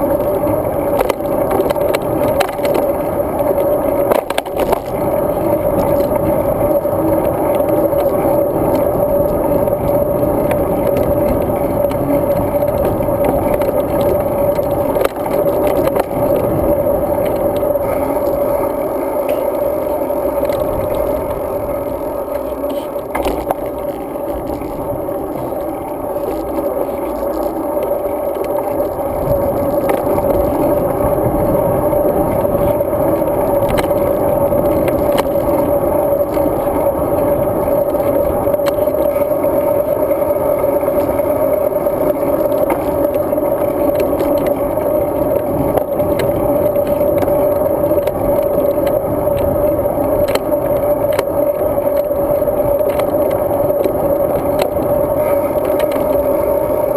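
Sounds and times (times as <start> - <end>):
bike rattling over bumps: 0.0 - 56.9
wind and road noise: 0.0 - 56.9.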